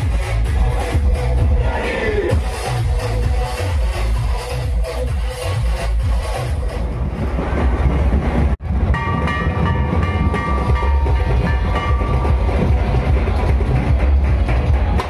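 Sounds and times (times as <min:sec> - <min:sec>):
bass drums beaten: 0:00.0 - 0:15.0.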